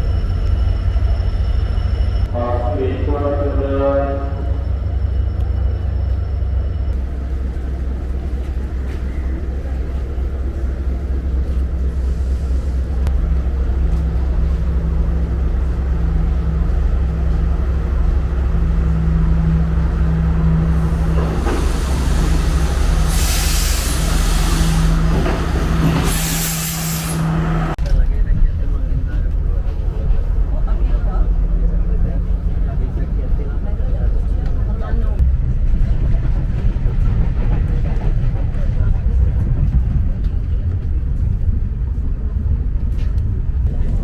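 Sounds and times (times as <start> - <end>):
passenger train rumbling: 0.0 - 44.0.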